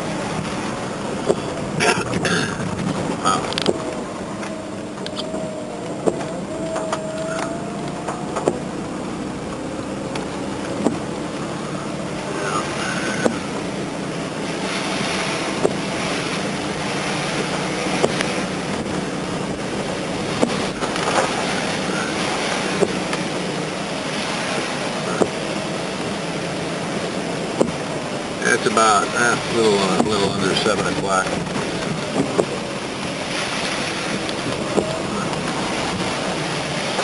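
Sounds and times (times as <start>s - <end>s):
car noise: 0.0s - 37.0s.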